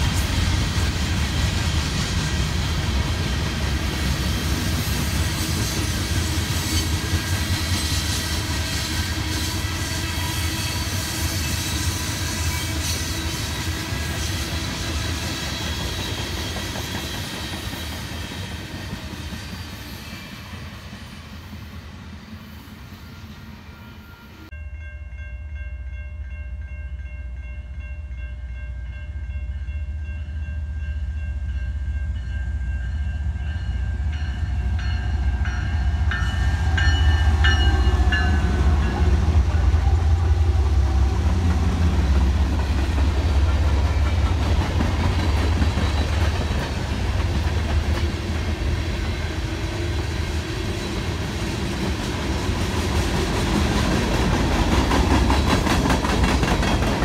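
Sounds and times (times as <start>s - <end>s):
train wheels on rail: 0.0s - 25.2s, 26.3s - 57.0s
diesel locomotive engine rumble: 0.0s - 57.0s.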